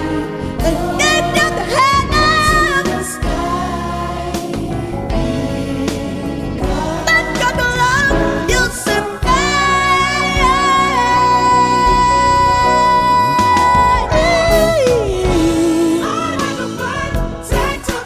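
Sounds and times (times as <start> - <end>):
gospel-style backing music: 0.0 - 18.0
person singing wordless notes: 0.0 - 18.0.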